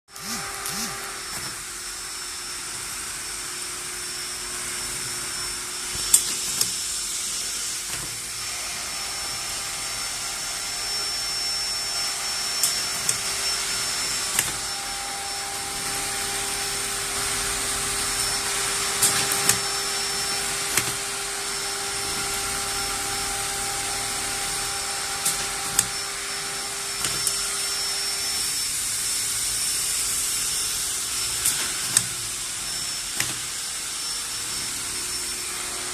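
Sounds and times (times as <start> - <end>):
sewing machine motor hum: 0.1 - 35.9.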